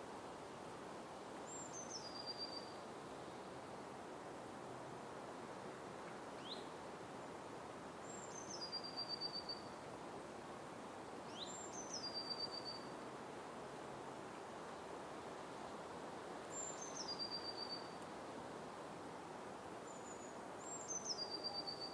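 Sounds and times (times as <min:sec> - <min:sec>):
forest background noise: 0:00.0 - 0:21.9.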